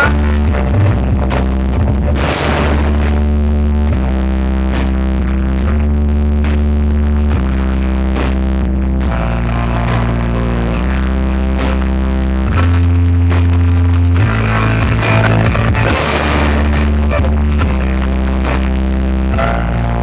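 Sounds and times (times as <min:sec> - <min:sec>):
loud music with heavy bass: 0:00.0 - 0:20.0.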